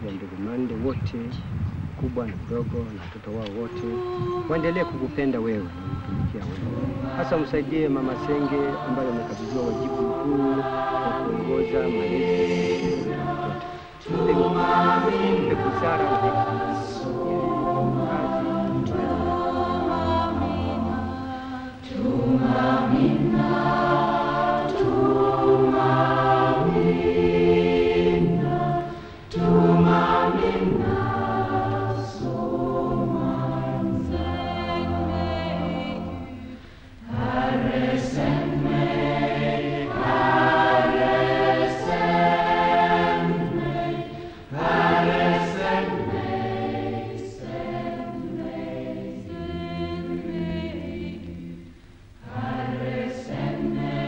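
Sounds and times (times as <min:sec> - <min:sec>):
choir singing: 0:03.5 - 0:54.0.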